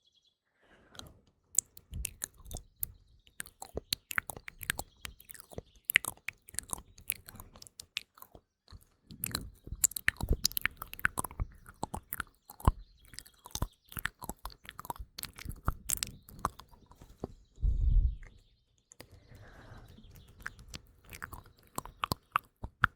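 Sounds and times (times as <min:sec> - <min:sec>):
wet mouth clicks and smacks: 0:01.0 - 0:17.4, 0:18.9 - 0:22.9.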